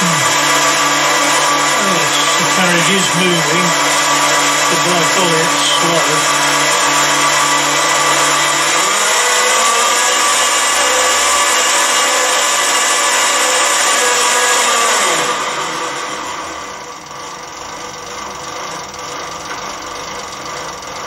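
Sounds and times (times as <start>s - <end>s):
lathe motor whirring: 0.0s - 21.0s.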